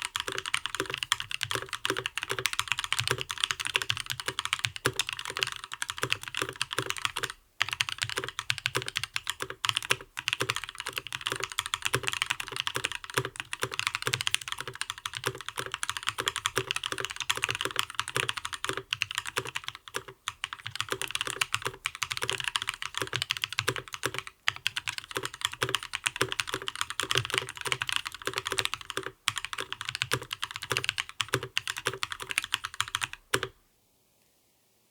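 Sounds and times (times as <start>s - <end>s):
fast typing on mechanical keyboard: 0.0s - 33.6s.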